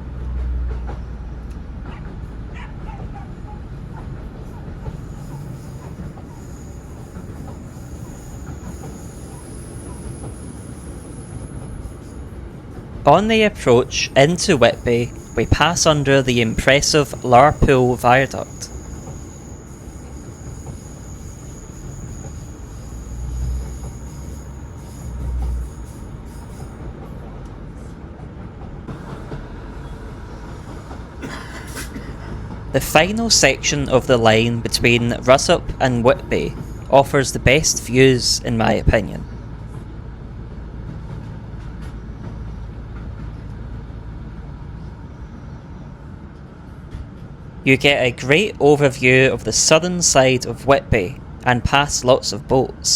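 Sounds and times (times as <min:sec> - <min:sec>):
train engine and wheels rumbling: 0:00.0 - 0:52.9.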